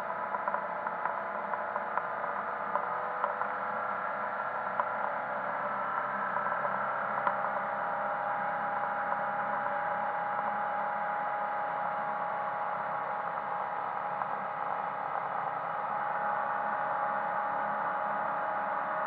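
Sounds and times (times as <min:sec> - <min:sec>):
muffled boat engine drone: 0:00.0 - 0:19.0.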